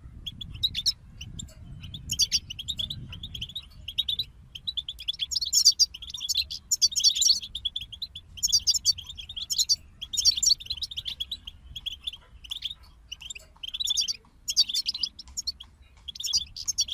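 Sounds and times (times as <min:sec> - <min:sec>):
goldfinch twittering: 0:00.1 - 0:16.9.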